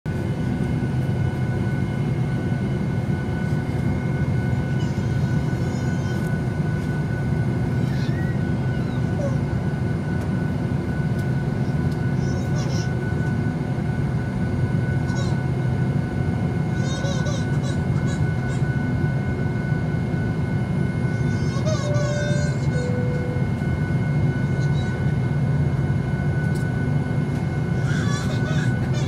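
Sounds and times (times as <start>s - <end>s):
aircraft cabin low rumble: 0.1s - 29.0s.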